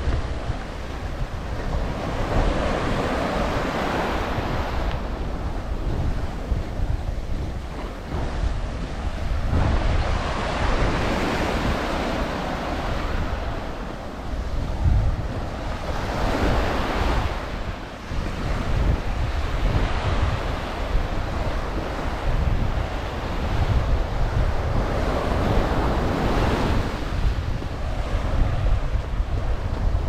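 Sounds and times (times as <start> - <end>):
ocean surf washing onto beach: 0.0 - 30.0
wind rumbling on microphone: 0.0 - 30.0.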